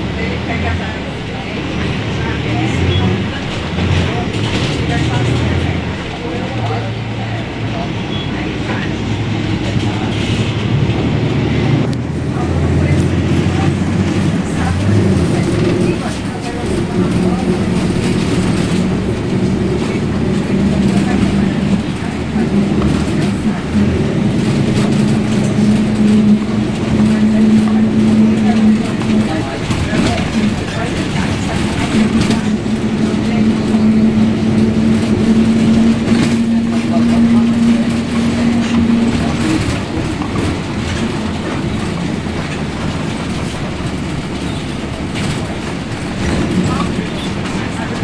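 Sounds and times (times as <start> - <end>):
bus differential whining: 0.0 - 48.0
bus running noise: 0.0 - 48.0.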